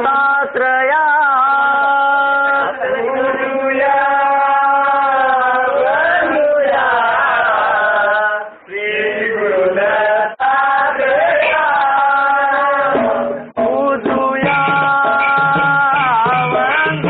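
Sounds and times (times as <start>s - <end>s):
man singing a chant: 0.0s - 17.0s.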